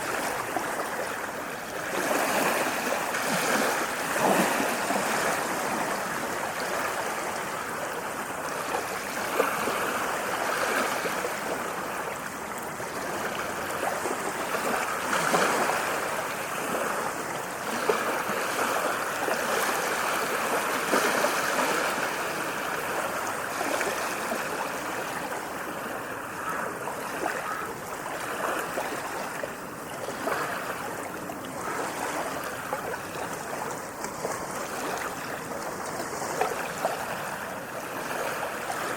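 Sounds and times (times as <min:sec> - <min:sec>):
small waves lapping: 0:00.0 - 0:38.9.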